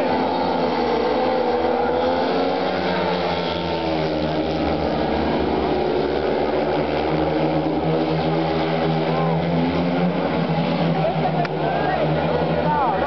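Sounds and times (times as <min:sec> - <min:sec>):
motorcycles racing at high revs: 0:00.0 - 0:13.0.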